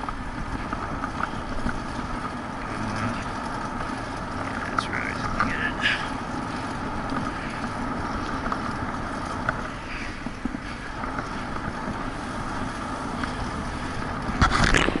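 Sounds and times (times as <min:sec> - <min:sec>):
tyre and road rumble: 0:00.0 - 0:15.0
wind rushing over microphone: 0:00.0 - 0:15.0.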